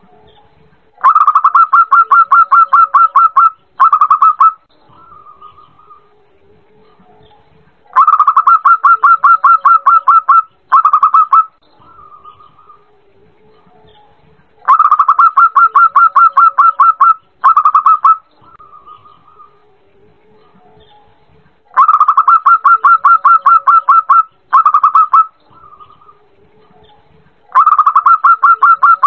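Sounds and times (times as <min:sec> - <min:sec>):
dove song: 0:00.0 - 0:29.0
faint bird calls: 0:00.0 - 0:29.0.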